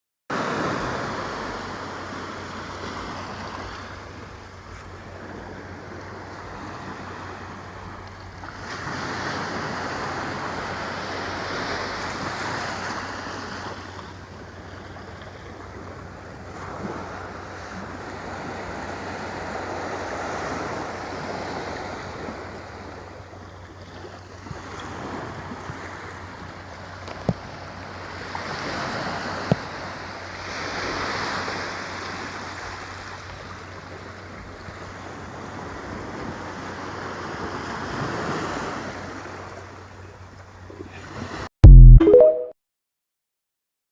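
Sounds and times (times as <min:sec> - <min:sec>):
waves breaking on shore: 0:00.3 - 0:41.5.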